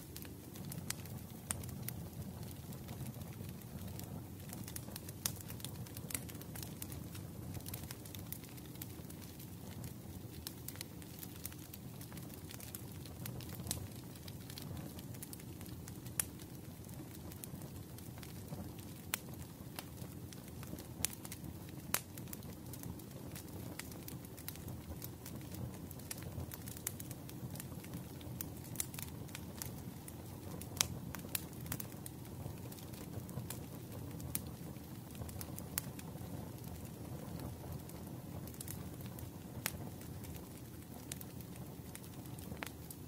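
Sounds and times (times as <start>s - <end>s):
fire popping: 0.0s - 43.0s
wood fire crackling: 0.0s - 43.0s.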